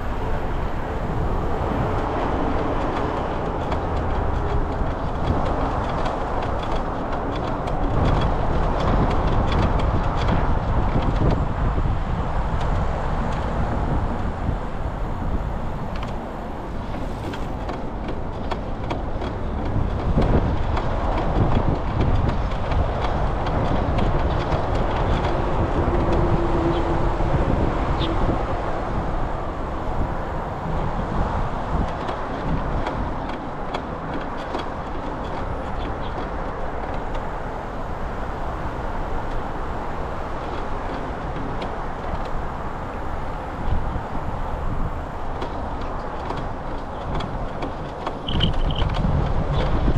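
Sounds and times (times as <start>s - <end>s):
bicycle tyres rolling on pavement: 0.0s - 49.9s
wind on microphone: 0.0s - 49.9s.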